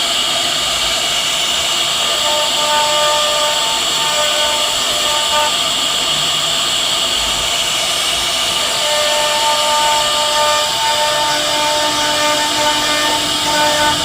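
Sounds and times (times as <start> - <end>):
spindle whine: 0.0 - 14.0
wood router hiss: 0.0 - 14.0.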